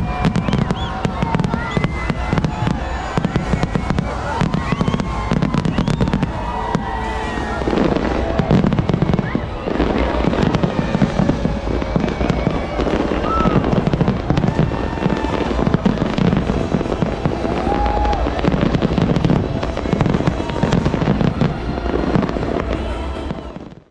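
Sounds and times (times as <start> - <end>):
firework whistles: 0.0 - 23.9
fireworks bangs and crackles: 0.0 - 23.9.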